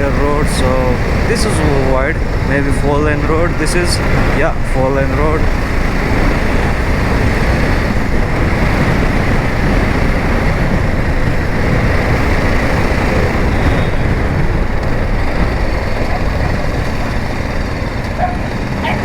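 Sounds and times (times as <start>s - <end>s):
motorcycle engine: 0.0s - 19.0s
road noise: 0.0s - 19.0s
wind rushing over microphone: 0.0s - 19.0s.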